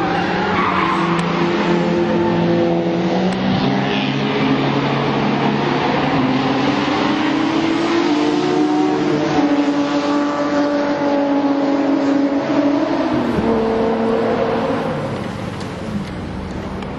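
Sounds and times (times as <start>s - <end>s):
car engine revving: 0.0s - 16.4s
spinning tyres rushing: 0.0s - 16.9s.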